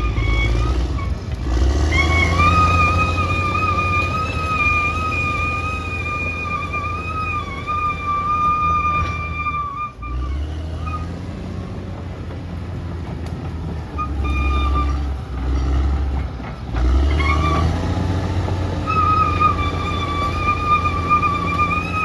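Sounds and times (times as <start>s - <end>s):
bulldozer diesel engine rumbling: 0.0s - 22.0s.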